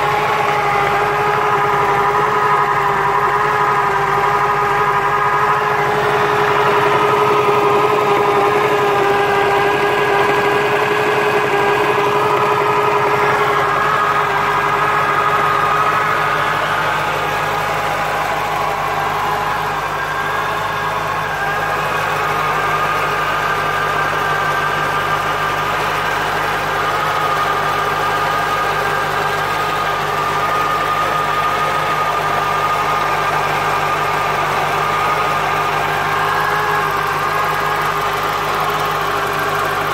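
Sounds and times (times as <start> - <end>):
car engine idling: 0.0 - 39.9
gearbox whine: 0.0 - 39.9.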